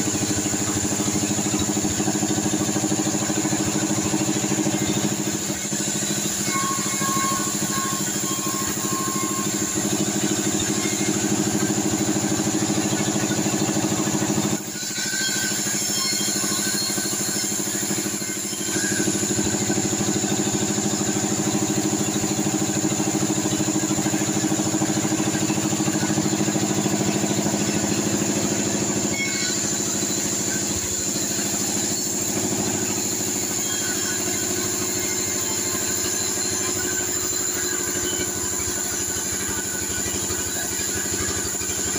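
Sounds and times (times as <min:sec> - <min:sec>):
band sawmill sawing logs: 0:00.0 - 0:41.9.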